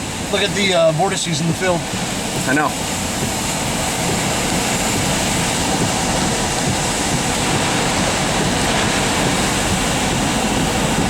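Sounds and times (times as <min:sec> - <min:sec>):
storm wind rushing: 0:00.0 - 0:11.0.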